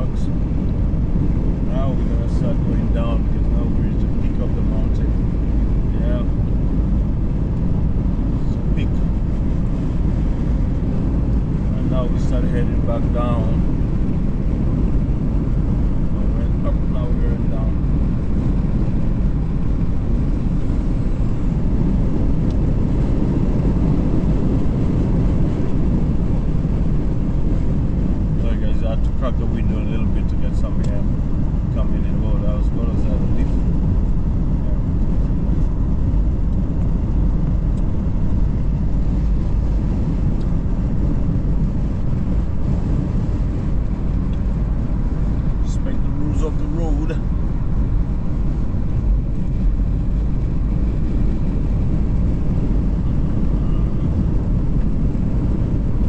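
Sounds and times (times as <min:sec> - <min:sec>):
road and engine noise in cabin: 0:00.0 - 0:56.0
wind rushing through window: 0:00.0 - 0:56.0.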